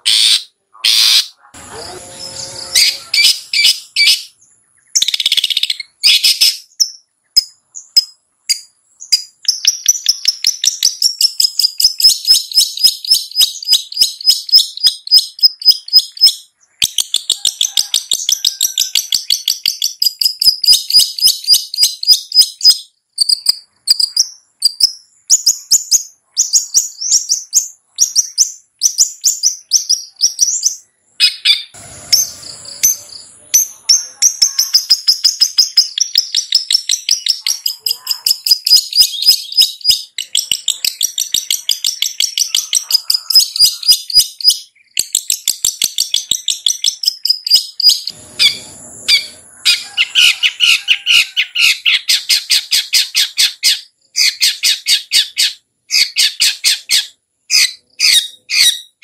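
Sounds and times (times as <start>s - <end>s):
shrike chattering song: 0.0s - 59.0s.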